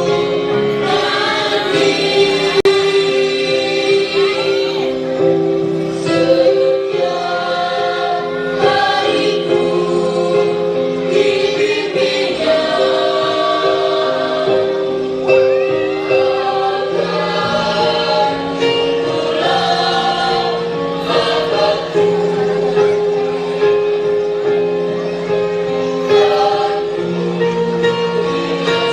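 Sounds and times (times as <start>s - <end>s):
group singing with instruments: 0.0s - 5.0s, 5.9s - 23.6s, 25.9s - 28.9s.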